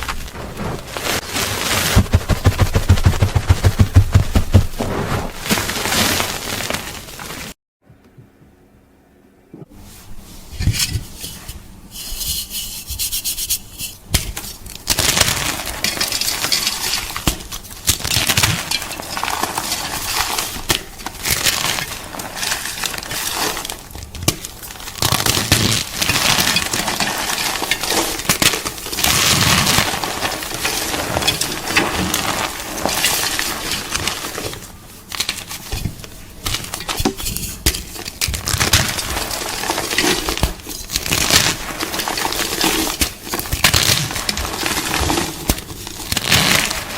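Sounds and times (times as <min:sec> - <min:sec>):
chalk crunching and crackling: 0:00.0 - 0:07.6, 0:11.1 - 0:46.9.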